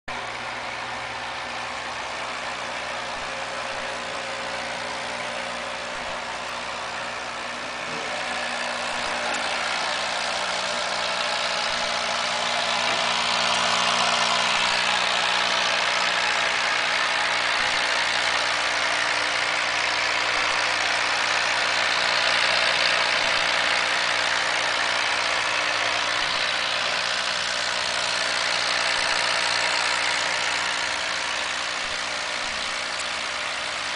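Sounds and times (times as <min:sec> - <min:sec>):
air pump humming: 0:00.1 - 0:33.9
air pump hiss: 0:02.0 - 0:33.9.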